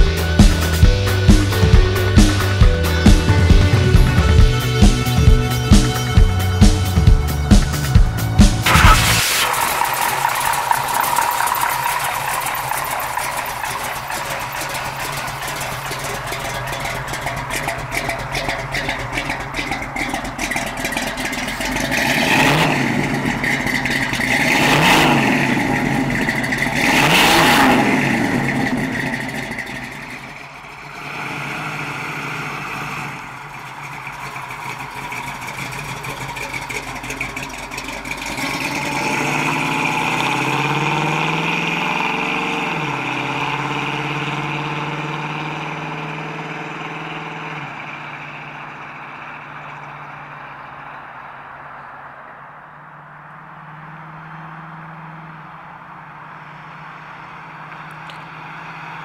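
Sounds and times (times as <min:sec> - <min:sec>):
car engine idling and revving: 0:00.0 - 0:59.0
car pulling away: 0:00.0 - 0:59.0.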